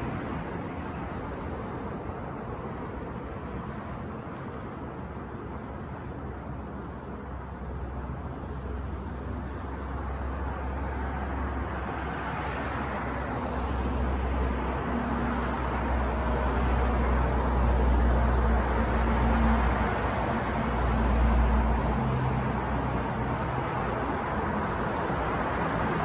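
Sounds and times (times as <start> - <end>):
city street traffic: 0.0 - 26.0
wind rumbling on microphone: 0.0 - 26.0.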